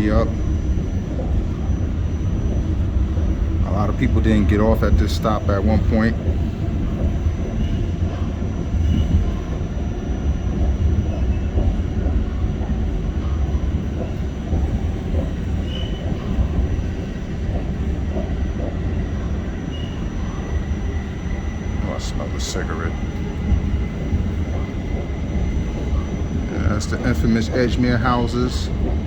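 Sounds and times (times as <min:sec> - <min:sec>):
subway wheels rumbling on rails: 0:00.0 - 0:29.0.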